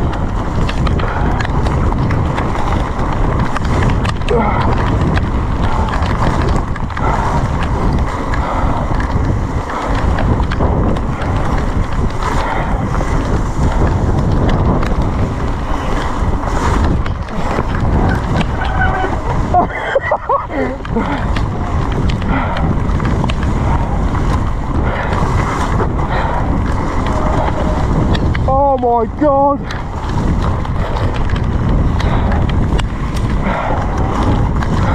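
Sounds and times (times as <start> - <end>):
bike rattles and knocks: 0.0 - 34.9
bike tyre noise: 0.0 - 34.9
heavy rain: 0.0 - 34.9
wind rushing over microphone: 0.0 - 34.9.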